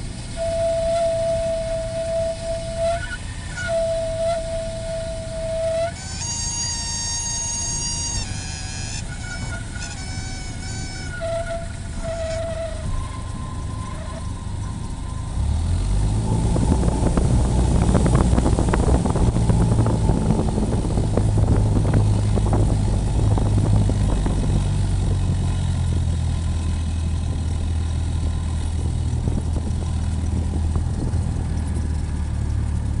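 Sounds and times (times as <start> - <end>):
propeller plane engine running: 0.0 - 33.0.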